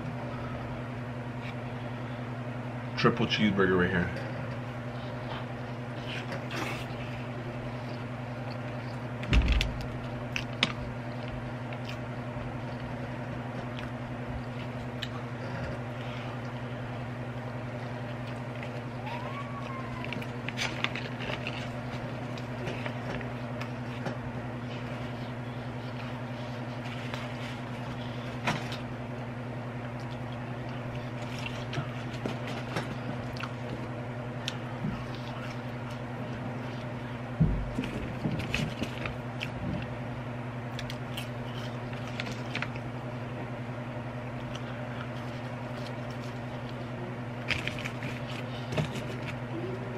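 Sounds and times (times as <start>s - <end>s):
steady low hum: 0.0s - 49.9s
person chewing food: 4.4s - 40.0s, 40.7s - 43.1s, 44.2s - 49.9s.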